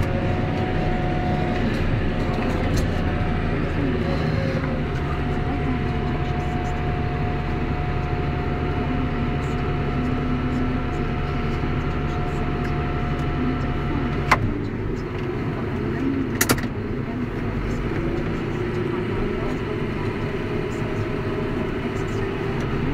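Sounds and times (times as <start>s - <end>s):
tractor diesel engine under load: 0.0s - 22.9s.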